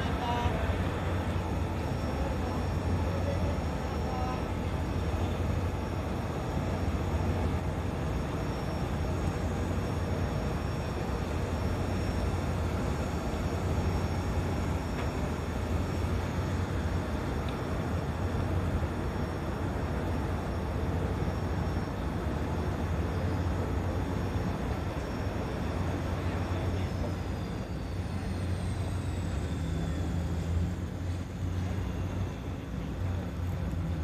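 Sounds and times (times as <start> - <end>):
engine running with low hum: 0.0 - 34.0.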